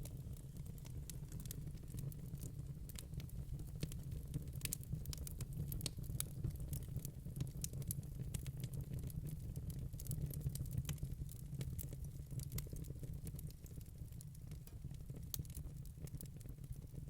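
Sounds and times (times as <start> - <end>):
fire low rumble: 0.0 - 17.0
wood fire crackling: 0.0 - 17.0.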